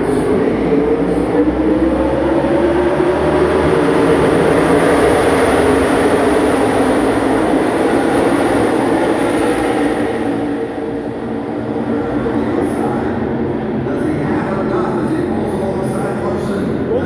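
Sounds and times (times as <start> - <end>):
race car engines at full throttle: 0.0 - 17.0.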